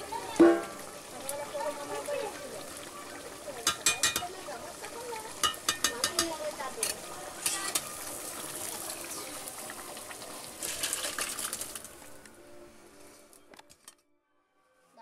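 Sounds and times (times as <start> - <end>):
curry sizzling and bubbling: 0.0 - 13.4.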